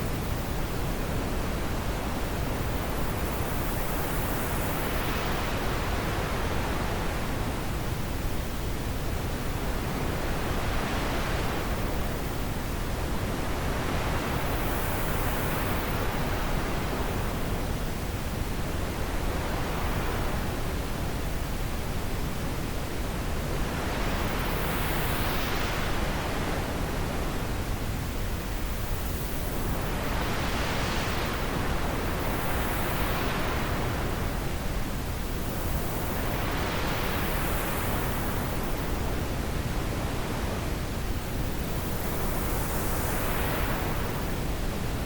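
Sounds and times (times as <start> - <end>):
wind blowing in gusts: 0.0 - 45.0.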